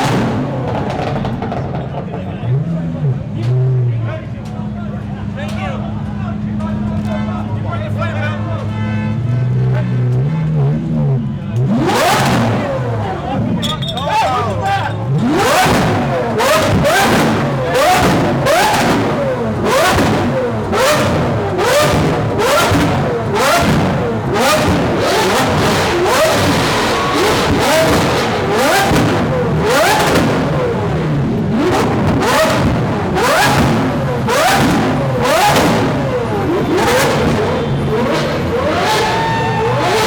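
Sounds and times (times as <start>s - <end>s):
exhaust cracks: 0.0s - 8.7s, 9.8s - 40.0s
car engine revving: 0.0s - 40.0s.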